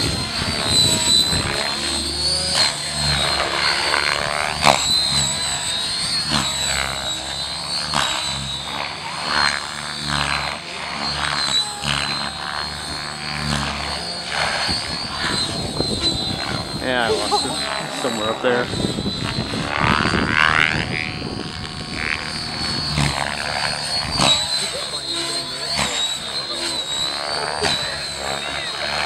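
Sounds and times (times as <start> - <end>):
model helicopter whining: 0.0 - 29.0.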